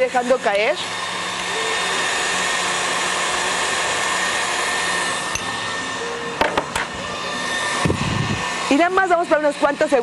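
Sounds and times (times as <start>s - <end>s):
electric stand mixer whisking: 0.0s - 10.0s.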